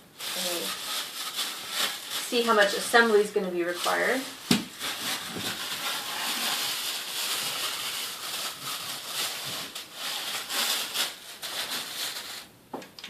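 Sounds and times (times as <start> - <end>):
plastic and cardboard rustling: 0.1 - 12.5.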